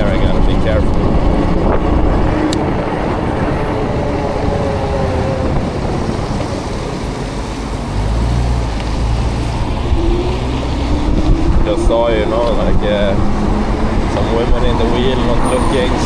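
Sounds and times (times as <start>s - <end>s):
e-bike riding noise: 0.0s - 16.0s
low rumble: 0.0s - 16.0s
rain: 0.0s - 16.0s
road traffic: 0.0s - 16.0s
wind on microphone: 0.0s - 16.0s.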